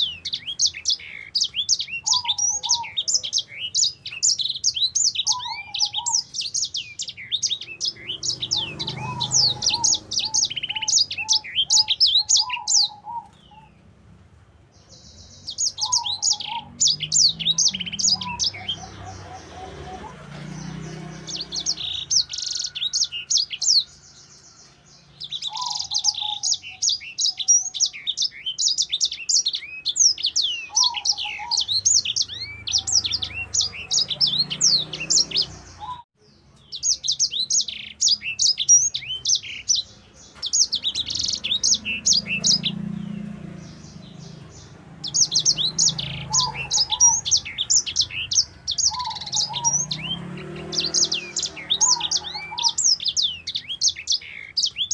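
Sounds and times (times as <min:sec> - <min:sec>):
bird twittering song: 0:00.0 - 0:54.9.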